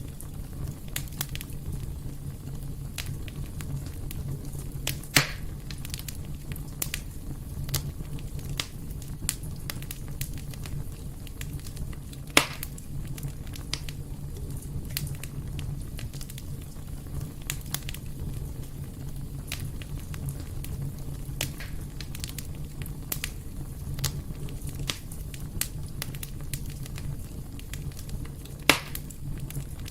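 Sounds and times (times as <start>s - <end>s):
low steady rumble: 0.0s - 29.9s
wood fire crackling: 0.0s - 29.9s.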